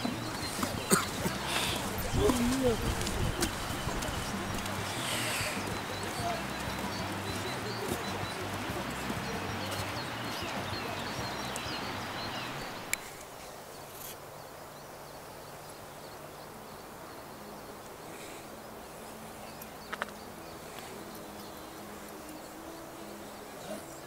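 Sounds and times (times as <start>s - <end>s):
small birds chirping: 0.0s - 24.0s
soft background rush: 0.0s - 24.0s.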